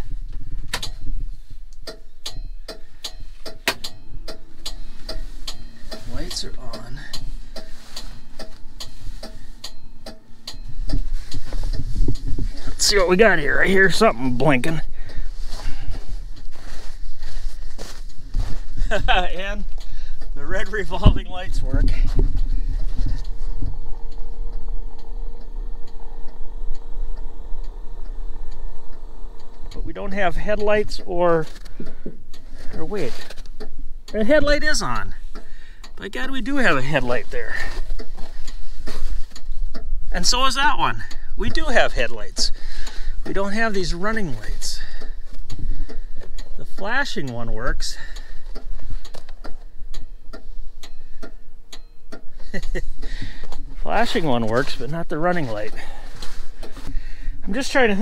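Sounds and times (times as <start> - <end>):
flasher relay clicking: 0.0 - 17.2, 19.6 - 58.0
steady low hum: 0.0 - 58.0.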